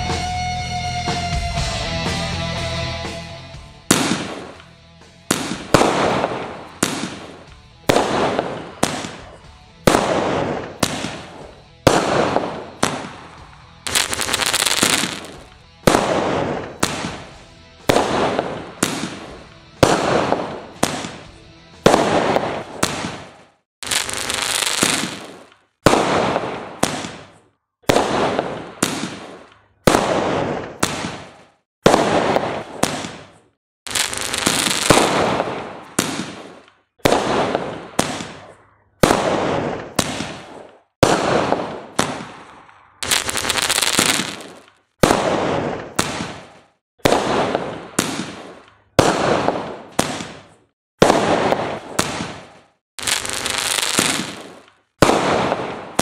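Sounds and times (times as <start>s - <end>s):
fireworks bangs with crackling: 3.9s - 4.6s, 5.3s - 56.0s.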